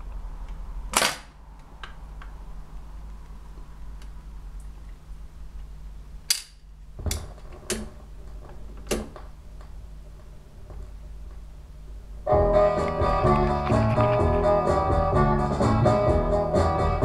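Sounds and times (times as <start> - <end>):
low mains hum: 0.0 - 17.0.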